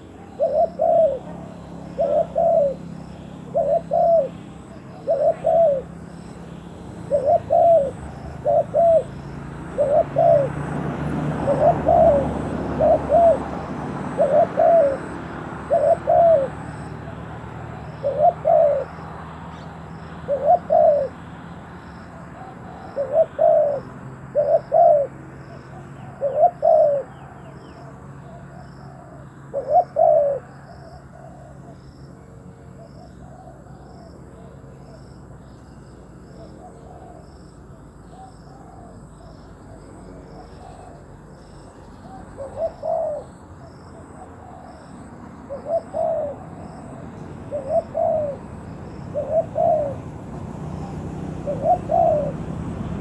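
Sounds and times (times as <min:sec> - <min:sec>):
doves cooing: 0:00.0 - 0:53.0.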